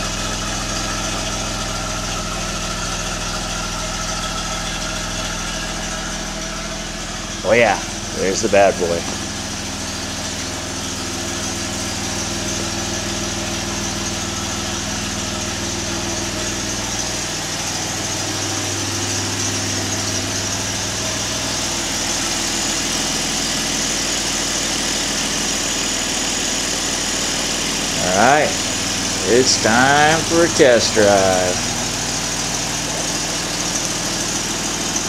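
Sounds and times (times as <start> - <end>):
car engine idling: 0.0 - 35.0
turbo whine: 0.0 - 35.0.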